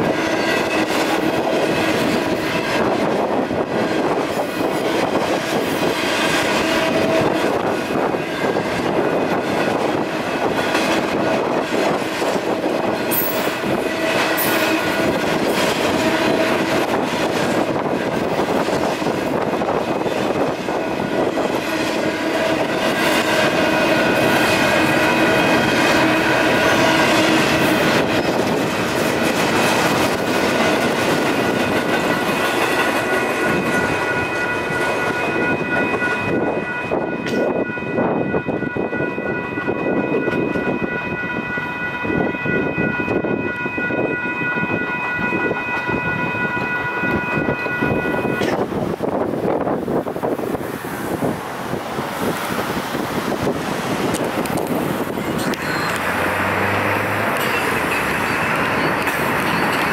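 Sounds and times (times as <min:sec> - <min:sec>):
crossing bell ringing: 0:00.0 - 0:49.7, 0:54.0 - 0:59.9
freight train rolling: 0:00.0 - 0:59.9.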